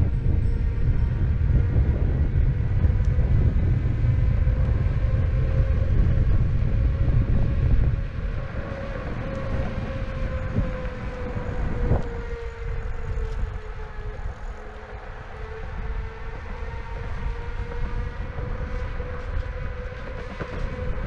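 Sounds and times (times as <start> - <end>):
wind buffeting microphone: 0.0 - 21.0
electric motors whining: 0.1 - 21.0.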